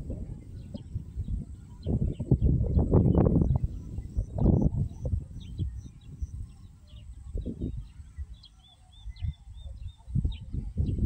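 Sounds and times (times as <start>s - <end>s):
low rumbling microphone noise: 0.0s - 11.0s
small birds chirping: 0.0s - 11.0s.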